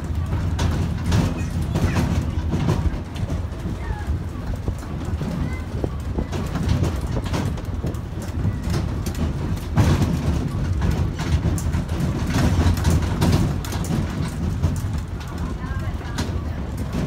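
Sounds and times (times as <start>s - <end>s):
mini train rumbling: 0.0s - 17.0s
train clacks and rattles: 0.0s - 17.0s.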